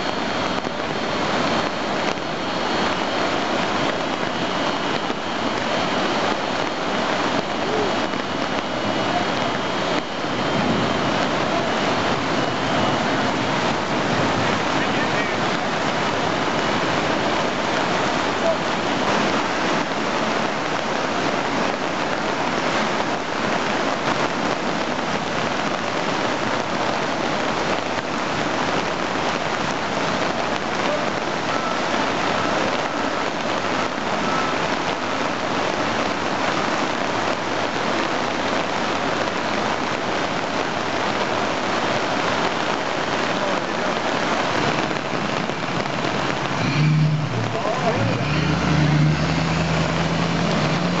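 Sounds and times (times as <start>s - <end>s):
heavy rain pouring onto water: 0.0s - 51.0s.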